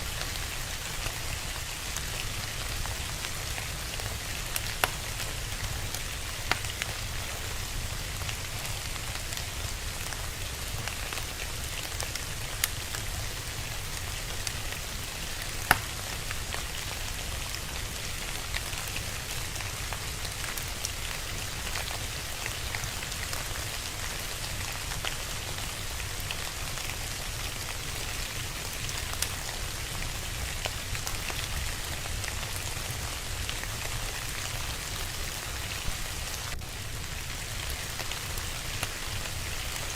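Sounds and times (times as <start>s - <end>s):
fire crackling and popping: 0.0s - 39.9s
steady rain falling: 0.0s - 39.9s.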